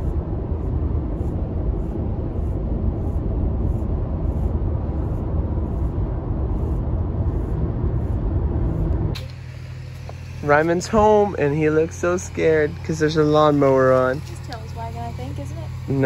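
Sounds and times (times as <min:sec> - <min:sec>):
car cabin road and engine noise: 0:00.0 - 0:16.0
steady motor hum: 0:00.0 - 0:16.0.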